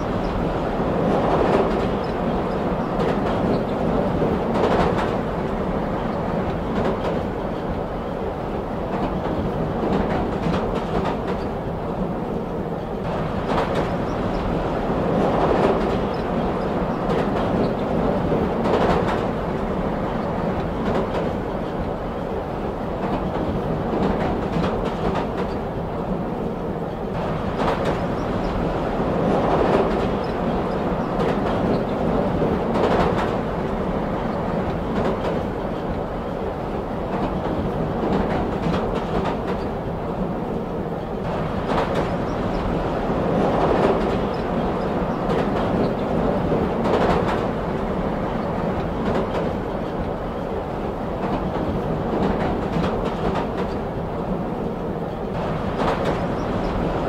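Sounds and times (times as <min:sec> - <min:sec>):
clickety-clack of rail joints: 0:00.0 - 0:57.0
train wheels rumbling on rails: 0:00.0 - 0:57.0.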